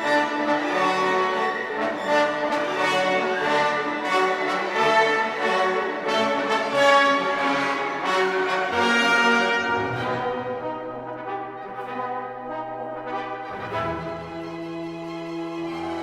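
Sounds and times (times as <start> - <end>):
brass-led orchestral music: 0.0 - 16.0.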